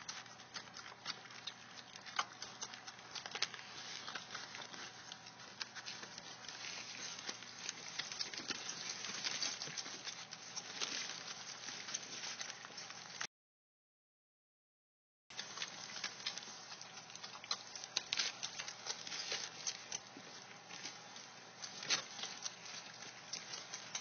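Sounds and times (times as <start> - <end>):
puppies suckling clicks and smacks: 0.0 - 13.3, 15.3 - 24.0.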